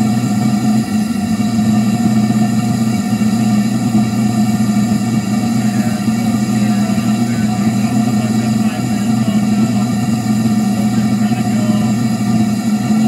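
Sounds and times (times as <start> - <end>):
combustion chamber roar: 0.0 - 13.0
constant low hum: 0.0 - 13.0.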